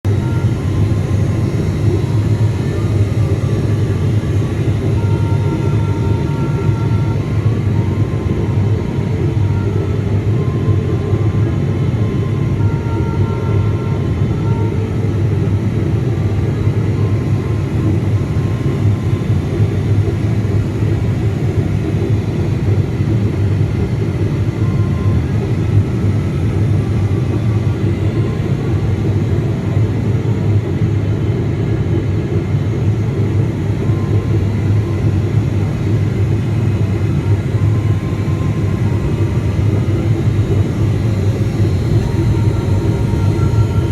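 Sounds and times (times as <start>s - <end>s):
jet engines rumbling: 0.0s - 43.9s
faint high whine: 0.1s - 43.9s.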